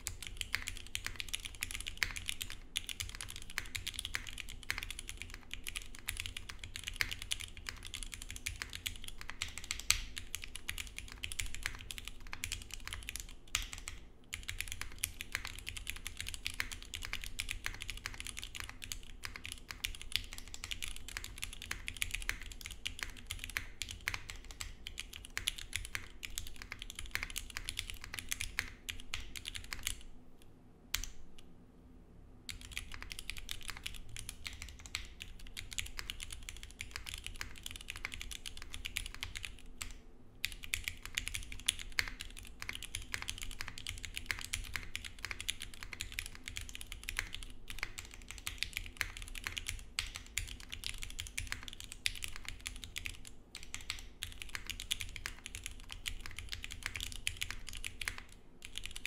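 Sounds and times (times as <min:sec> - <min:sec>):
mechanical keyboard typing: 0:00.0 - 0:30.1, 0:32.5 - 0:59.0.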